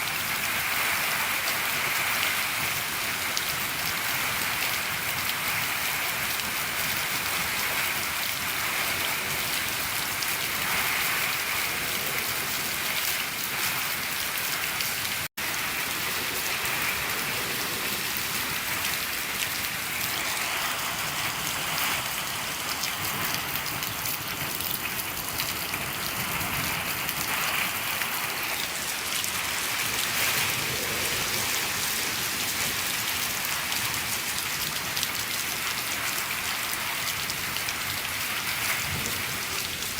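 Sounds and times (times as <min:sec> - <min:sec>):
rain on a shed roof: 0:00.0 - 0:39.9.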